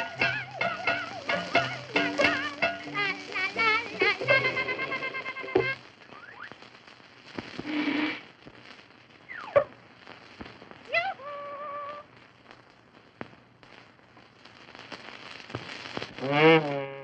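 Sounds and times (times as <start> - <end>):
film soundtrack crackle and hiss: 0.0 - 17.0.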